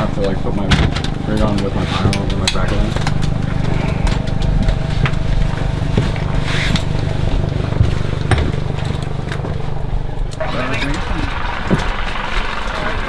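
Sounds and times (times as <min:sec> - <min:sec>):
turboprop cabin drone: 0:00.0 - 0:13.0.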